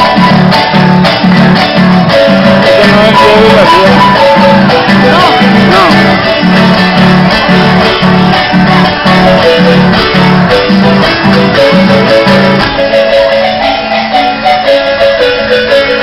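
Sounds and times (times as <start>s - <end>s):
keyboard melody: 0.0s - 16.0s
pulsing bass line: 0.0s - 16.0s.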